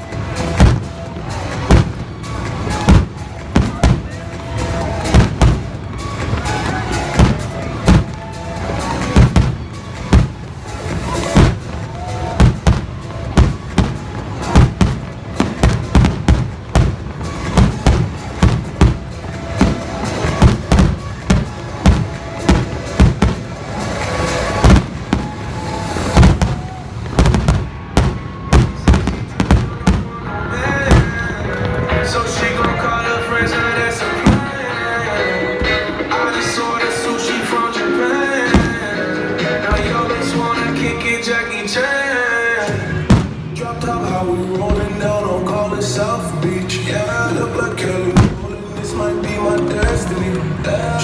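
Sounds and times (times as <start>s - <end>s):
pop music from loudspeakers: 0.0s - 51.0s
firework shells bursting: 0.1s - 45.6s, 46.9s - 51.0s.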